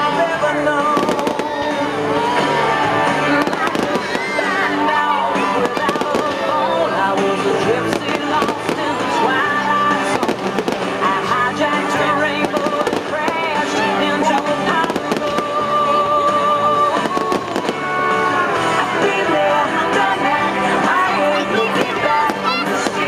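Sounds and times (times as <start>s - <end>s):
fireworks bursting and crackling: 0.0s - 23.0s
loud music: 0.0s - 23.0s.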